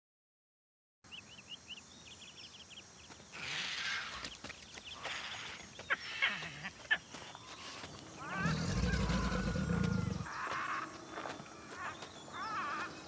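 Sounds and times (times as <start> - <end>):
birds chirping: 1.0 - 13.0.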